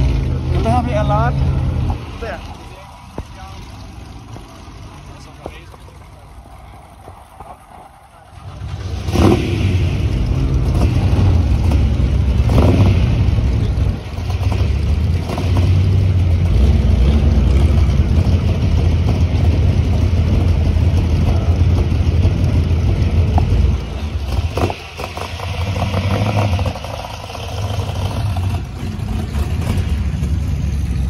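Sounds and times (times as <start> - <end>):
racing car engines running: 0.0 - 31.0.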